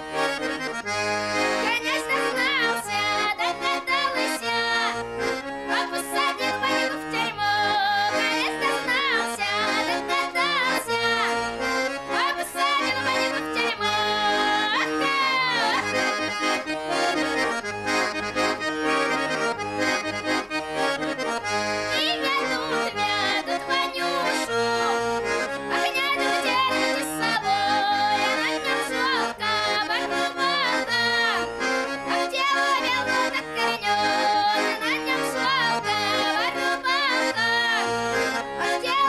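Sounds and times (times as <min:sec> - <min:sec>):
accordion folk music: 0:00.0 - 0:39.0.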